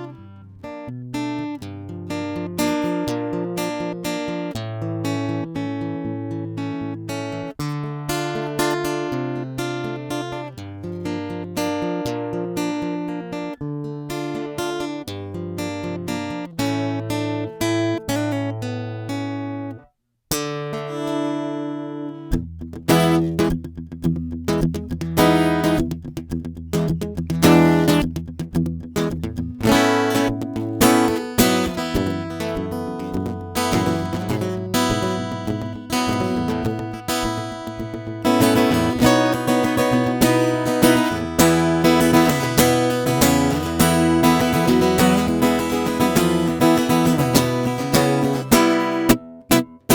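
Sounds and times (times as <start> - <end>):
acoustic guitar strummed: 0.0 - 49.9.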